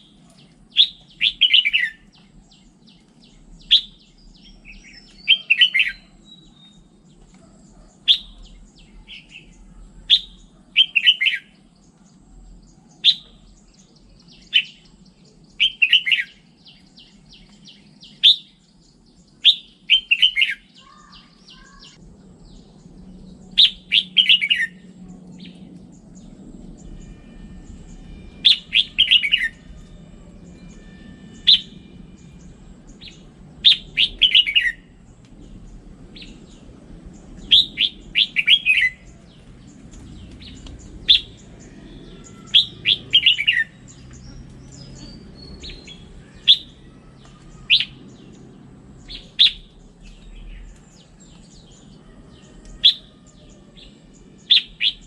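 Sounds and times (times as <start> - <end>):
bulbul singing: 0.0 - 55.0.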